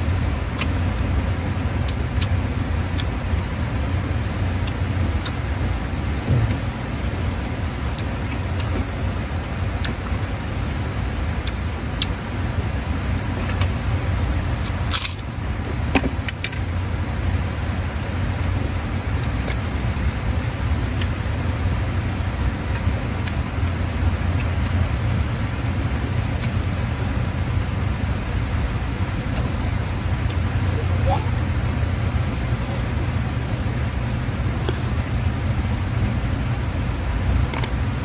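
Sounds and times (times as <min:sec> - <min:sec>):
low rumble of background noise: 0:00.0 - 0:38.0.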